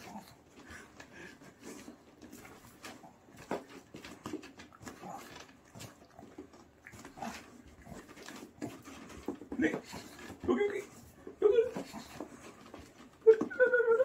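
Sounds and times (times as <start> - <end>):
dog sniffing: 0.0 - 13.4.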